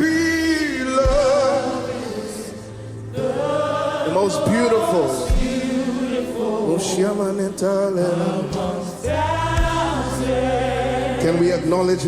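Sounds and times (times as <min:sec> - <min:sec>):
held instrumental backing: 0:00.0 - 0:12.0
voices singing gospel song: 0:00.0 - 0:12.0.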